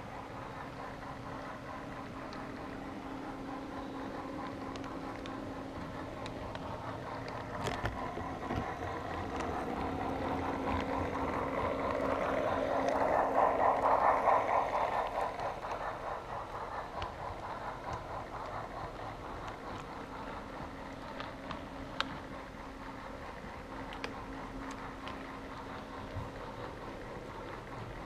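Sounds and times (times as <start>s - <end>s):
model train motor hum: 0.0s - 28.0s
wheels rolling on rails: 0.0s - 28.0s.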